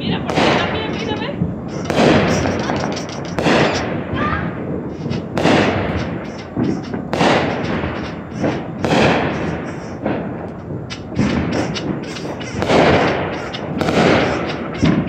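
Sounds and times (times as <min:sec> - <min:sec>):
fireworks banging: 0:00.0 - 0:15.0
fireworks popping and crackling: 0:00.0 - 0:15.0.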